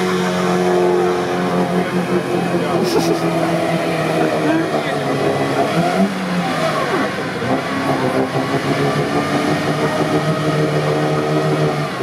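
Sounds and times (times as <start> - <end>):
engine revving hard: 0.0 - 12.0
vehicle driving through muddy water: 0.0 - 12.0.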